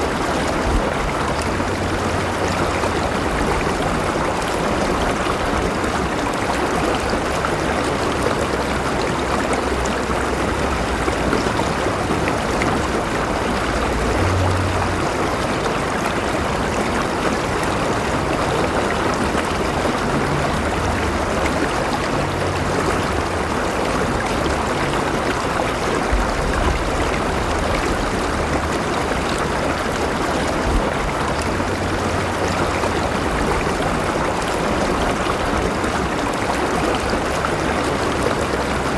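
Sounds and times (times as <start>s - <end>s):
river rushing and gurgling: 0.0s - 38.9s.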